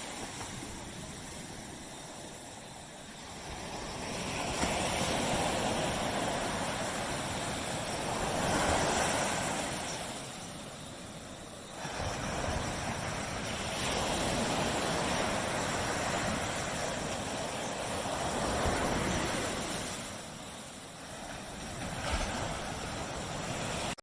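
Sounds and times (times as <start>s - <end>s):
ocean waves breaking on beach: 0.0s - 24.0s.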